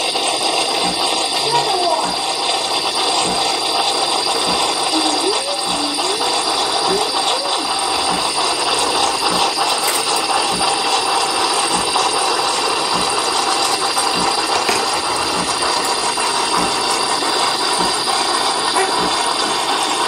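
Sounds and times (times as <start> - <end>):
milk frother hissing: 0.0 - 20.0.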